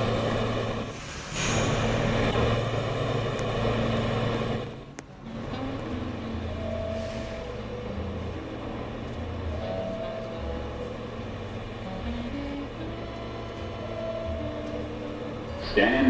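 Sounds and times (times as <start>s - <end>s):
subway train rumbling: 0.0s - 16.0s
train equipment hum: 0.0s - 16.0s.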